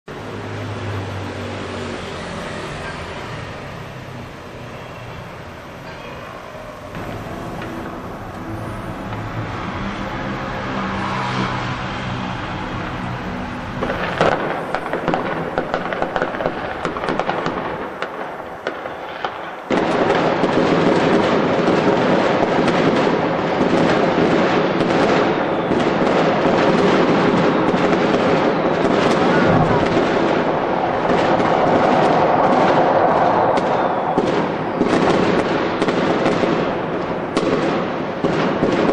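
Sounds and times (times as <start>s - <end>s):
fireworks bangs and crackles: 0.1s - 38.9s.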